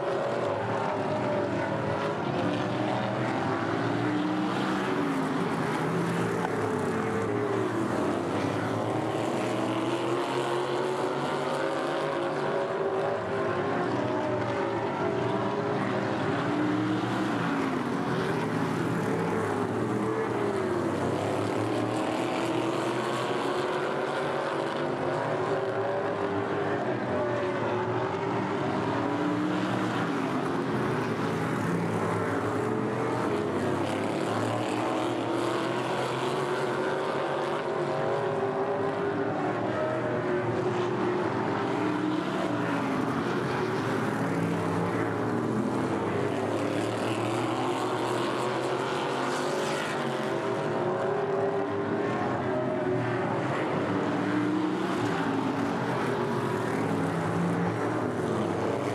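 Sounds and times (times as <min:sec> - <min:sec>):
race car engines passing: 0:00.0 - 0:58.9.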